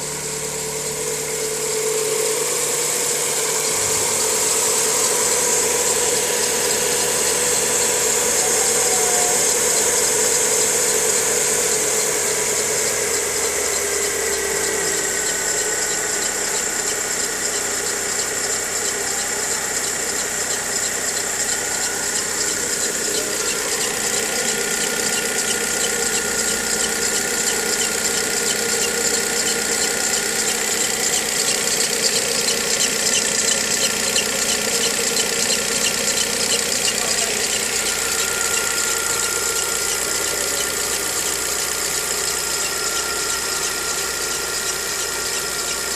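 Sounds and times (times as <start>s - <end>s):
car engine idling: 0.0s - 45.9s
squealing whine: 0.0s - 45.9s.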